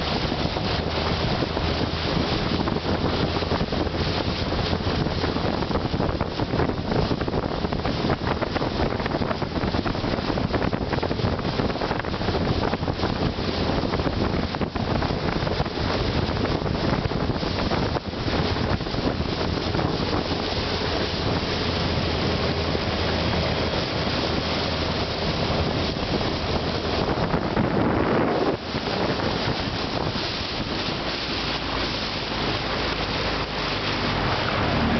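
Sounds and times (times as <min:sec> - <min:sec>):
boat motor running: 0:00.0 - 0:34.9
water rushing past hull: 0:00.0 - 0:34.9
wind buffeting microphone: 0:00.0 - 0:34.9.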